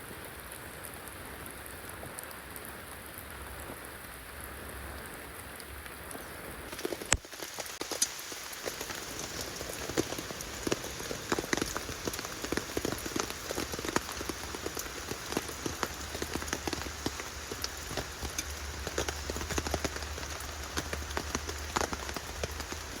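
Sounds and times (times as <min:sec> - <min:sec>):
raindrops ticking on a surface: 0:00.0 - 0:23.0.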